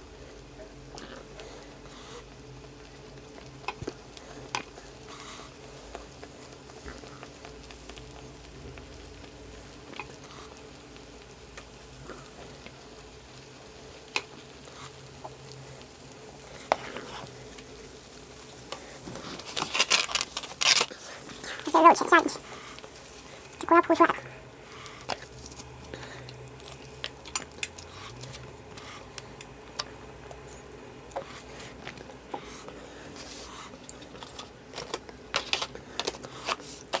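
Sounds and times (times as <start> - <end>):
broth boiling: 0.0 - 37.0
low steady hum: 0.0 - 37.0.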